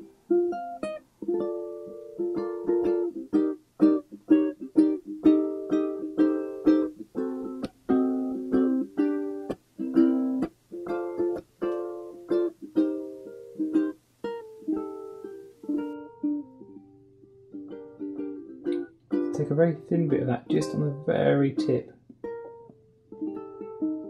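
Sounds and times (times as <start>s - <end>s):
plucked-string tune: 0.0s - 24.0s.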